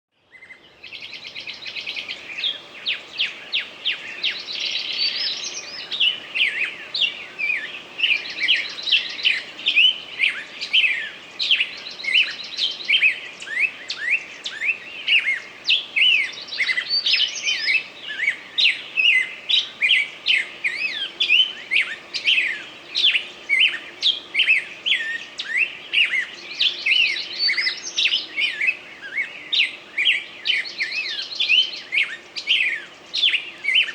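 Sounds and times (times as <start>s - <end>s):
songbird chirping and whistling: 0.4s - 33.9s
bird buzzy trills: 0.9s - 33.9s.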